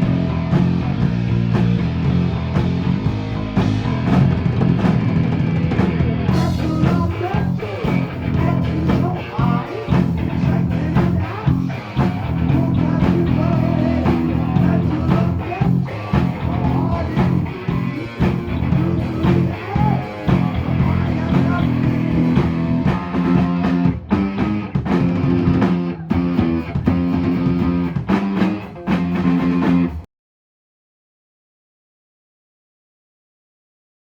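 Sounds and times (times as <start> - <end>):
heavy metal band playing: 0.0 - 30.0.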